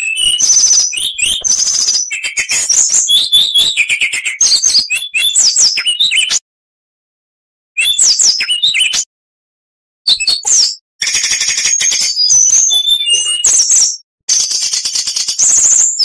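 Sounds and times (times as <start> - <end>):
bird singing whistled phrases: 0.0 - 6.4, 7.8 - 9.1, 10.1 - 16.0.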